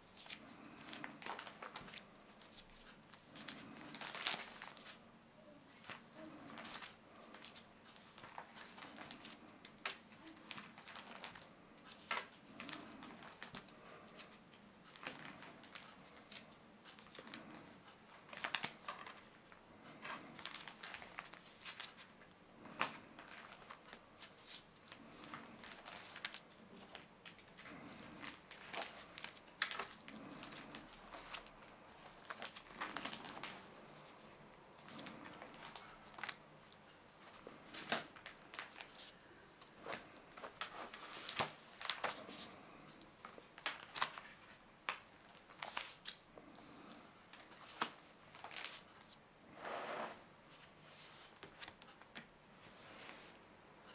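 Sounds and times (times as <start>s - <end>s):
plastic album pages crinkling: 0.0s - 5.0s, 5.7s - 49.2s, 50.5s - 53.4s.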